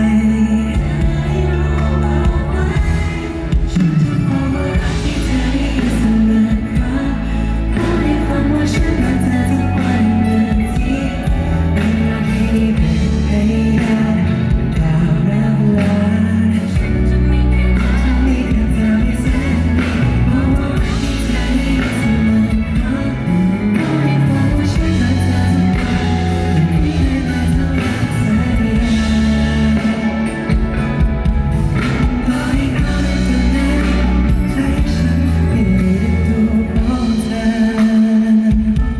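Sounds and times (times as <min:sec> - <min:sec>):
live pop band: 0:00.0 - 0:38.9
man singing: 0:00.0 - 0:38.9.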